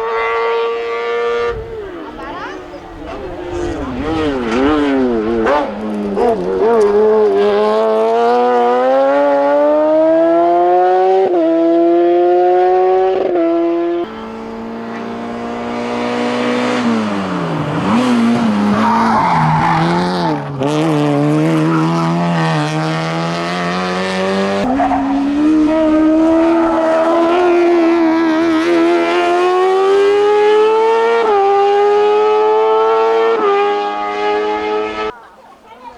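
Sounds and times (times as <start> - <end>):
race car engine at full throttle: 0.0 - 35.2.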